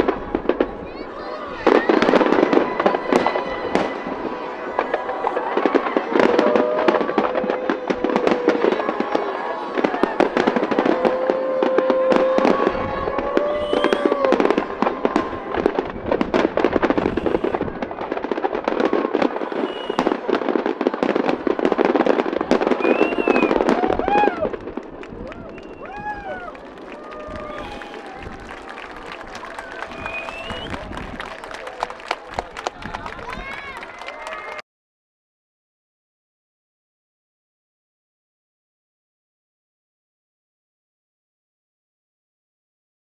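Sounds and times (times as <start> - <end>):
fireworks bursting and crackling: 0.0 - 34.6.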